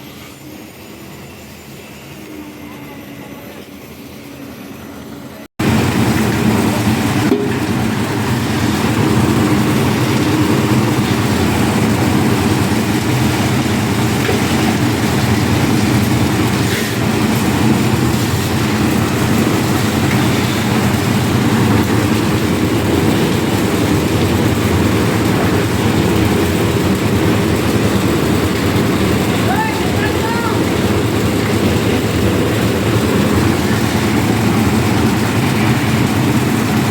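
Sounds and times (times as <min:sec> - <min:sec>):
mixer engine running under load: 0:00.0 - 0:36.9.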